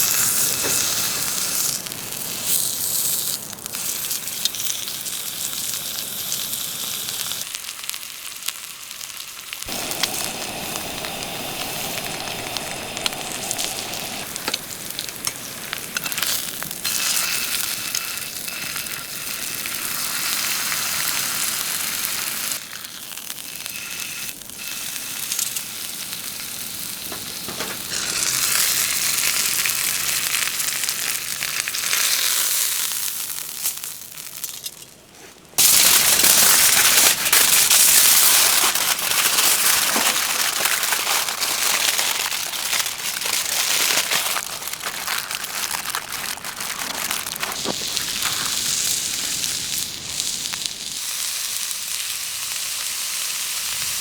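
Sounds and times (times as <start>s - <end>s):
steak sizzling in a frying pan: 0.0s - 34.5s, 35.6s - 54.0s.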